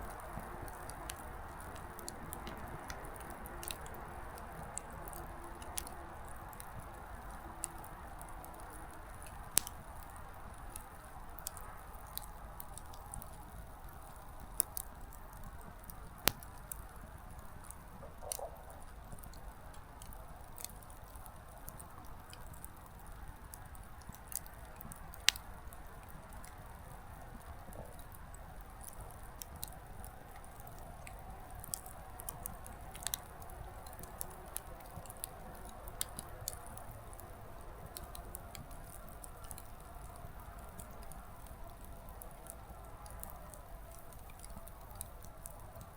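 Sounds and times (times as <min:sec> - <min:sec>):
campfire crackling and popping: 0:00.0 - 0:45.9
soft steady hiss: 0:00.0 - 0:45.9.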